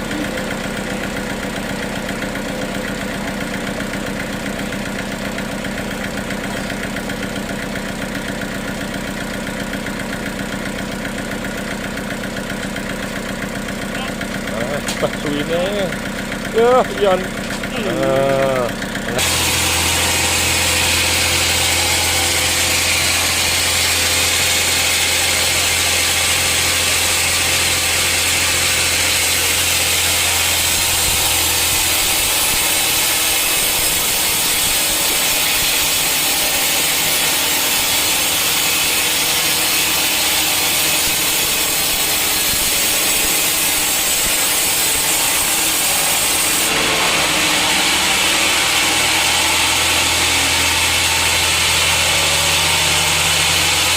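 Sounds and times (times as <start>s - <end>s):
saw cutting through wood: 0.0s - 53.9s.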